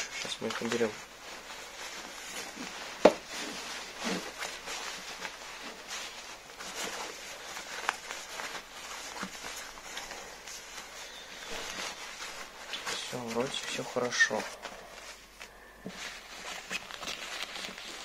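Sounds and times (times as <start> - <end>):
faux fur rustling: 0.0 - 18.0.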